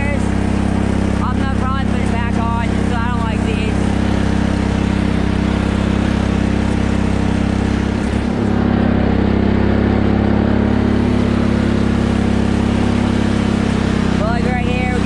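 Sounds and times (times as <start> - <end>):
lawn tractor engine running: 0.0 - 15.0.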